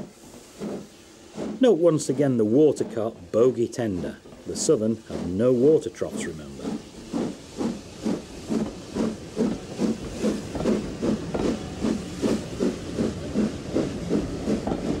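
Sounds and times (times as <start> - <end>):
steam hissing: 0.0 - 15.0
steam locomotive exhaust beats: 0.0 - 15.0.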